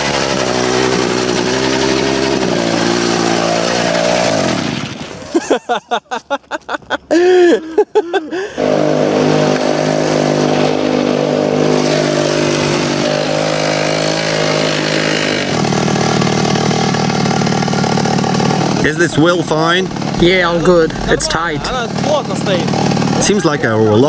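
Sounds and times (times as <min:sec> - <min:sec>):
chainsaw engine revving: 0:00.0 - 0:04.9, 0:08.6 - 0:24.0.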